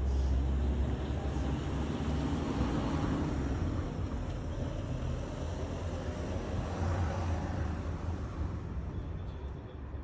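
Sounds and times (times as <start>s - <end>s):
low rumble of vehicle traffic: 0.0s - 10.0s.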